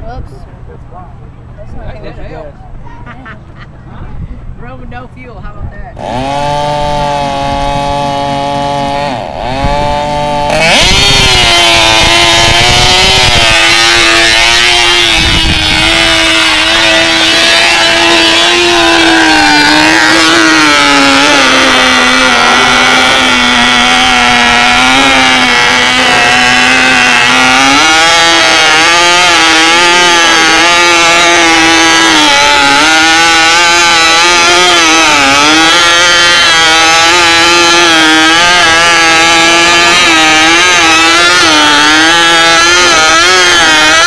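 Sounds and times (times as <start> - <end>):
small engine revving: 6.0 - 44.0.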